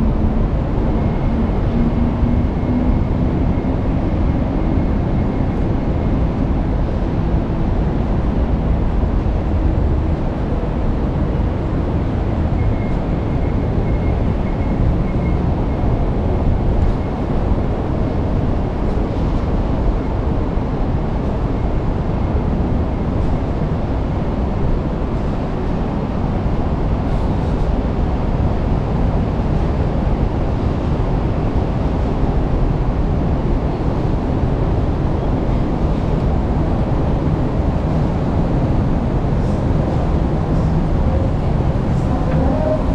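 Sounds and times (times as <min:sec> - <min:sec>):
city traffic noise: 0:00.0 - 0:42.9
wind buffeting microphone: 0:00.0 - 0:42.9.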